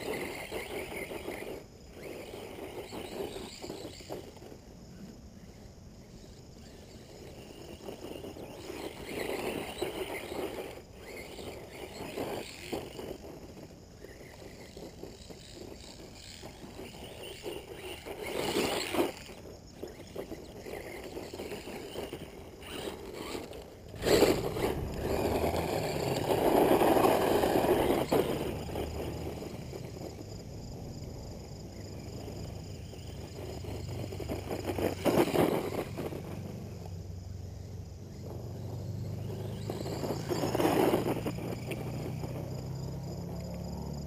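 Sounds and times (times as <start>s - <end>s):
rc truck driving over gravel: 0.0s - 44.0s.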